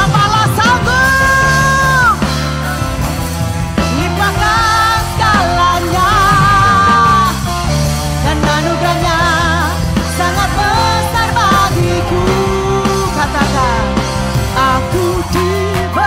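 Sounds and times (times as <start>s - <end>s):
woman singing: 0.0s - 2.6s, 3.8s - 16.0s
worship band playing: 0.0s - 16.0s.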